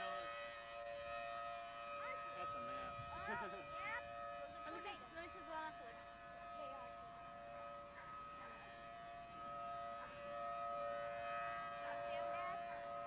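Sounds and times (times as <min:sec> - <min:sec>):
distant warning siren: 0:00.0 - 0:13.0.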